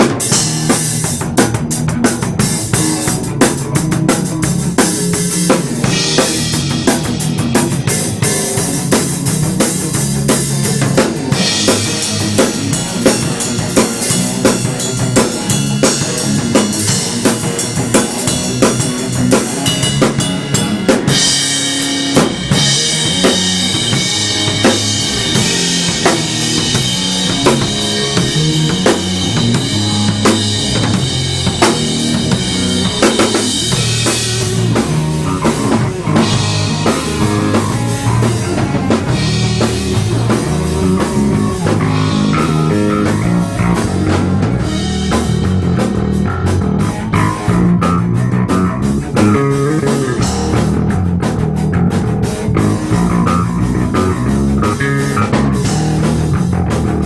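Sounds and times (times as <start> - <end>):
drum kit beat: 0.0 - 57.0
low moving bass line: 0.0 - 57.0.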